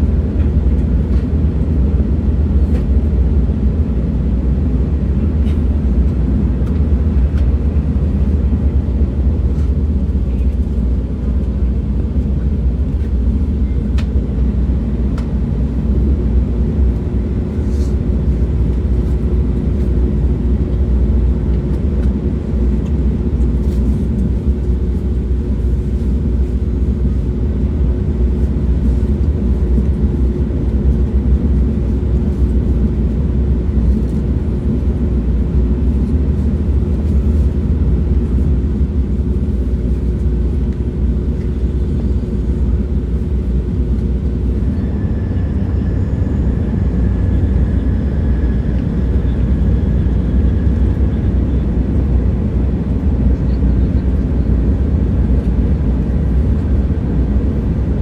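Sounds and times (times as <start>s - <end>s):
steady hum: 0.0s - 58.0s
train rumbling: 0.0s - 58.0s.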